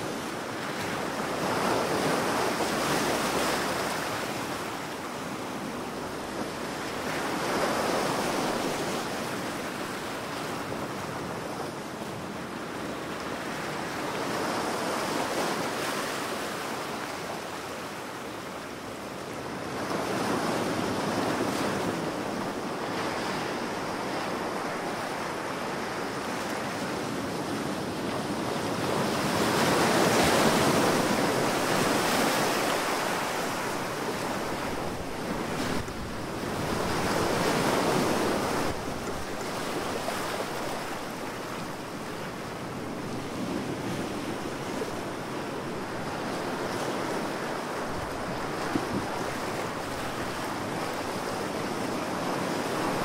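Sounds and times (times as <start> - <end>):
ocean waves breaking: 0.0 - 53.0.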